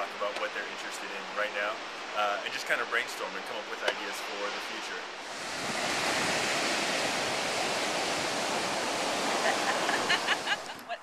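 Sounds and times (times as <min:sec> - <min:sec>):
surf washing up sandy beach: 0:00.0 - 0:10.8.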